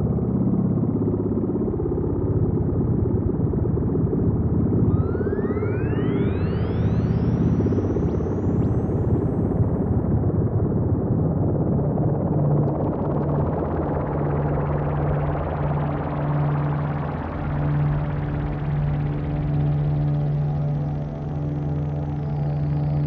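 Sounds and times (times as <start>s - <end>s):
low steady synth drone: 0.0s - 23.0s.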